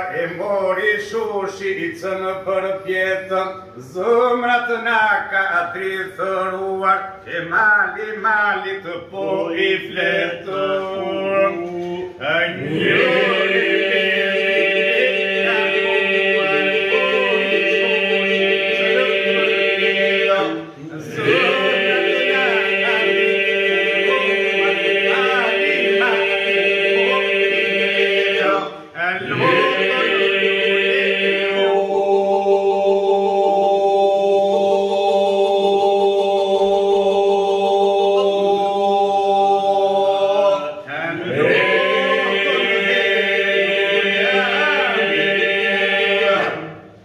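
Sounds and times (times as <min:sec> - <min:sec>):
men singing unaccompanied: 0:00.0 - 0:46.7.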